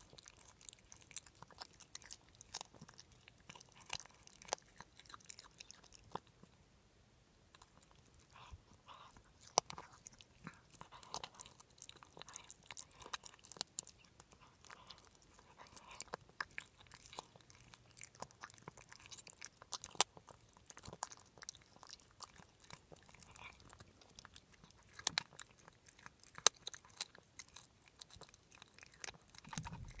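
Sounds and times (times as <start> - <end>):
pet chewing crunchy food: 0.0 - 6.6, 7.5 - 30.0.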